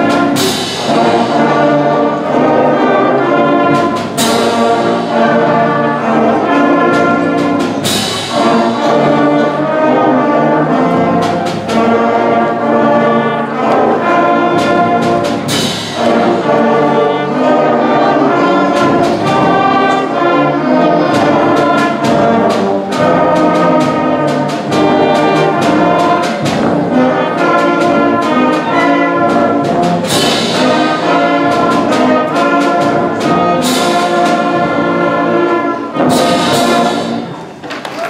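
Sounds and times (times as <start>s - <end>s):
trumpets and brass: 0.0s - 37.6s
concert band playing loudly: 0.0s - 38.0s.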